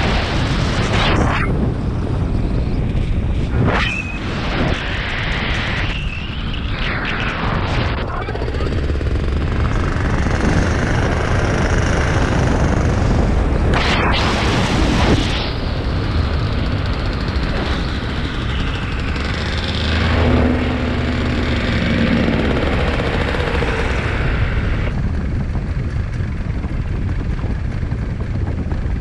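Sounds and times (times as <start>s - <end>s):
paramotor engine and propeller: 0.0s - 29.0s
wind rush on microphone: 0.0s - 29.0s.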